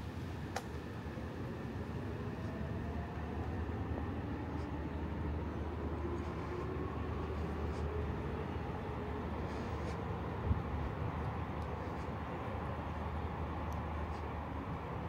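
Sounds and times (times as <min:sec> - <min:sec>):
passing vehicle rumble: 0:01.6 - 0:15.0.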